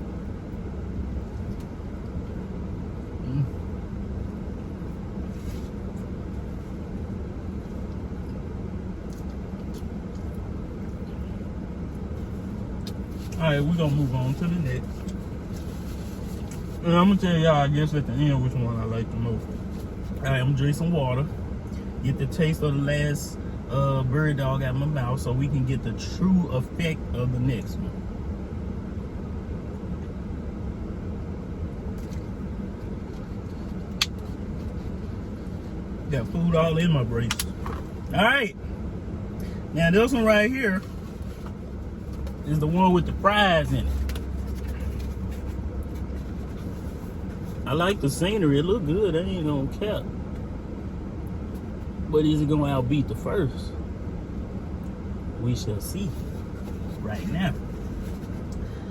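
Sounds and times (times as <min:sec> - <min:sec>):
car engine rumble inside cabin: 0:00.0 - 0:58.9.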